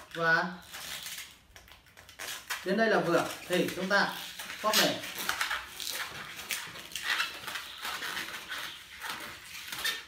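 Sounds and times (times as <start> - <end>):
latex balloon squeaking: 0.0 - 10.0.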